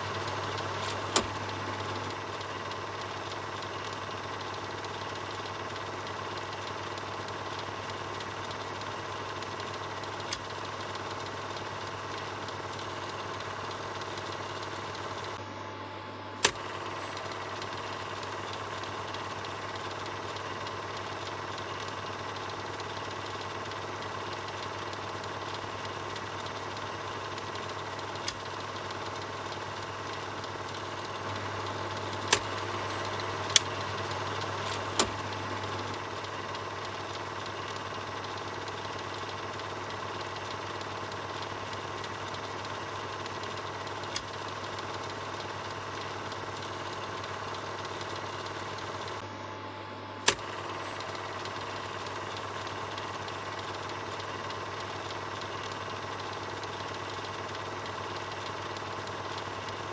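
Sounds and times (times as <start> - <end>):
film projector clattering: 0.0 - 15.4, 16.4 - 49.3, 50.2 - 59.9
sharp clicks: 0.0 - 15.4, 16.4 - 49.2, 50.2 - 59.9.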